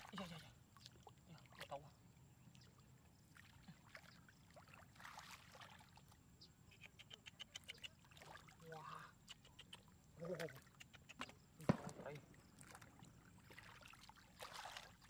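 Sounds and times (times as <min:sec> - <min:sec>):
muddy water sloshing: 0:00.0 - 0:15.0.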